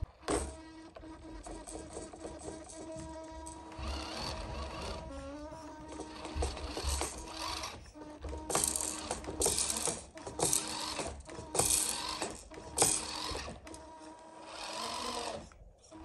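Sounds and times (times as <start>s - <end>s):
electric motor and gears whirring: 0.0s - 16.0s.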